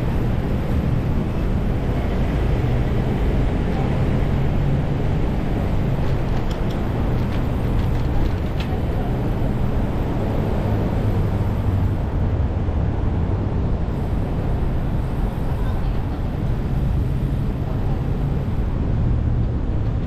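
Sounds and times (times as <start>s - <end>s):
city traffic: 0.0s - 20.0s
wind and road noise: 0.0s - 20.0s.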